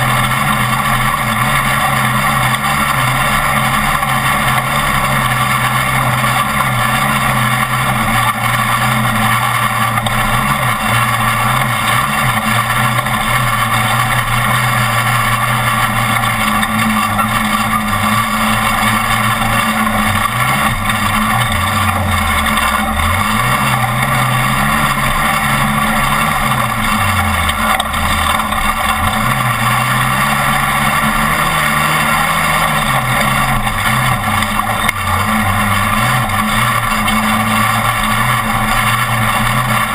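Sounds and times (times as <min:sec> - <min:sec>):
road and wind noise: 0:00.0 - 0:39.9
truck engine running hard: 0:00.0 - 0:39.9.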